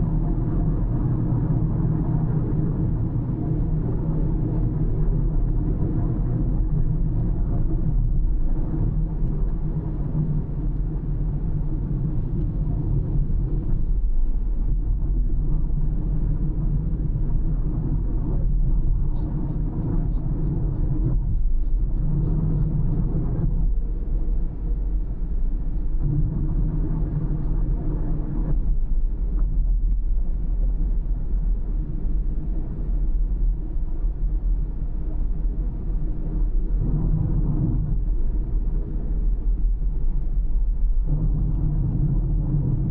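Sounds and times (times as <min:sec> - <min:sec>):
car tyre and engine rumble: 0:00.0 - 0:42.9.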